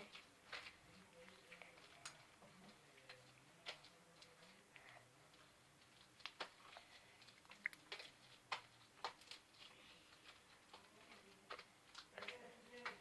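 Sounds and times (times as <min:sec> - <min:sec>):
faint clicks and taps: 0:00.0 - 0:13.0.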